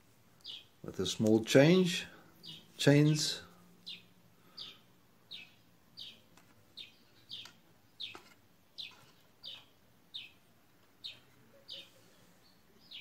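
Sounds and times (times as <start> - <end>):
small bird chirping: 0.3 - 0.8, 2.3 - 13.0.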